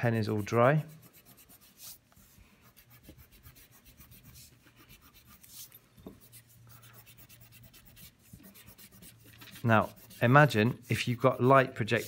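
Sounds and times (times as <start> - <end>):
eraser scrubbing on paper: 0.0 - 12.0.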